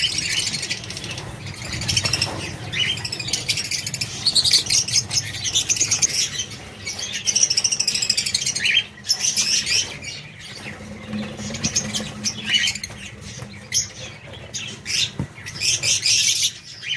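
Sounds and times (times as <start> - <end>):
baby chicks cheeping: 0.0 - 16.9.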